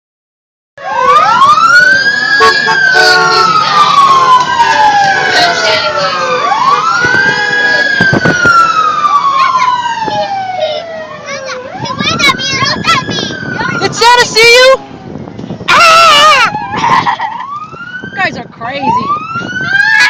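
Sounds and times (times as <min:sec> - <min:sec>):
emergency sirens wailing: 0:00.8 - 0:20.0.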